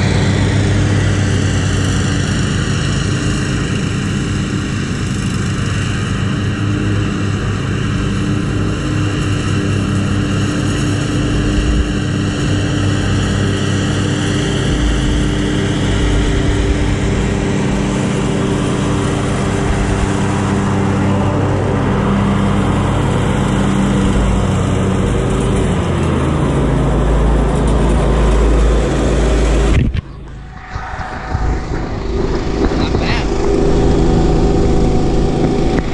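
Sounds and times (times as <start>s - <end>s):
lawn mower engine running: 0.0s - 35.9s.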